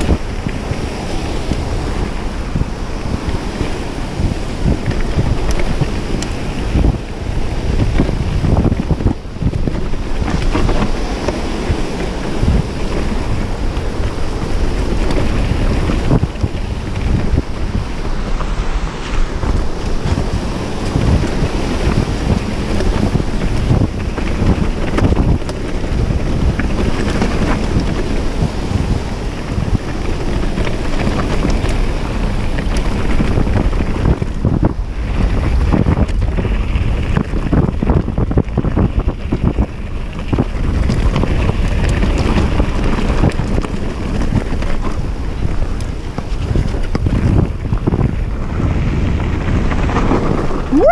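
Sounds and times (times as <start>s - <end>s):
bike knocking and rattling: 0.0s - 50.9s
tyre rumble on dirt trail: 0.0s - 50.9s
wind buffeting microphone: 0.0s - 50.9s.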